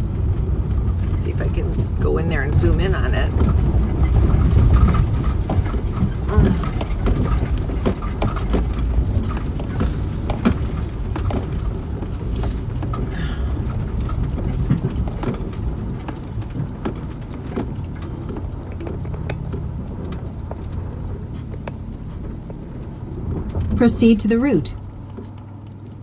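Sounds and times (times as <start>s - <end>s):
van driving over gravel: 0.0s - 26.0s.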